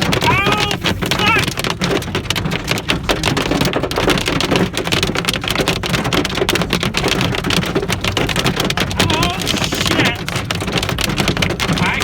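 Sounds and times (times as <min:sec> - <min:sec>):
hail pelting a car roof: 0:00.0 - 0:12.0.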